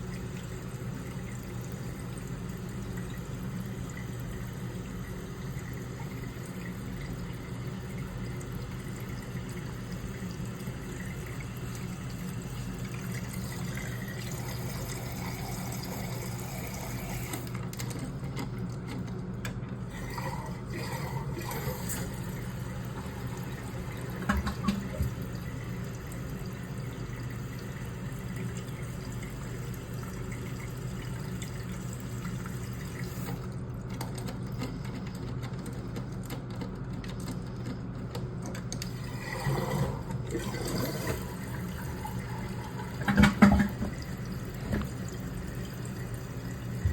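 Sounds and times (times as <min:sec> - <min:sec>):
water filling toilet cistern: 0:00.0 - 0:46.9.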